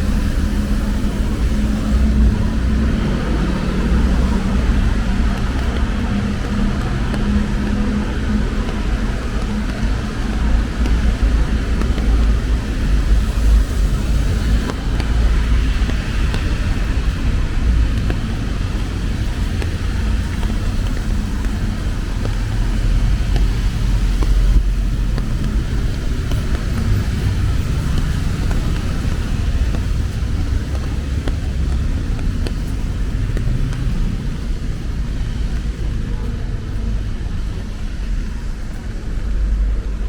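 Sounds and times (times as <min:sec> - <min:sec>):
cars passing on wet road: 0:00.0 - 0:40.0.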